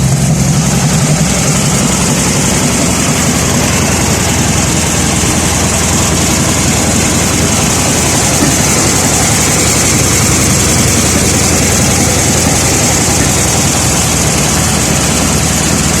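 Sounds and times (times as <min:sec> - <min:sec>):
car engine misfiring: 0:00.0 - 0:16.0.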